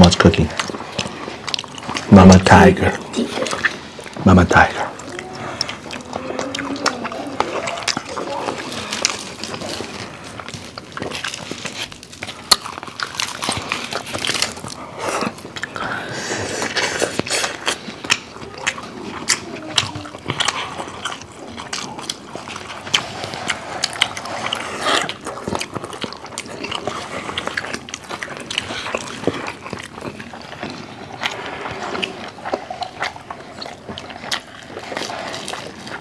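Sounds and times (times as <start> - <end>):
people chewing: 0.0 - 36.0.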